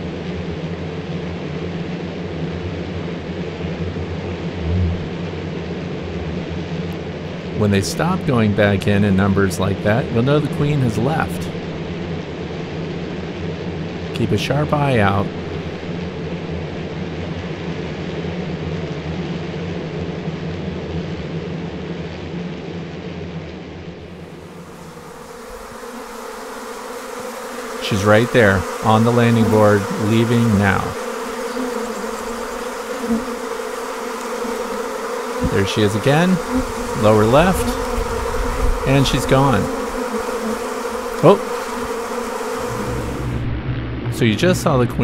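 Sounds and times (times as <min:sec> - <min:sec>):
bee swarm droning: 0:00.0 - 0:45.0.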